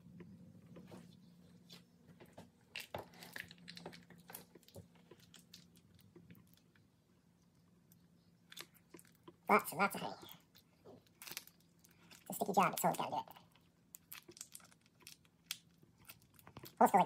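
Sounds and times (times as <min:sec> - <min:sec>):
low steady hum: 0:00.0 - 0:17.0
honeycomb crackling and squelching: 0:01.5 - 0:17.0.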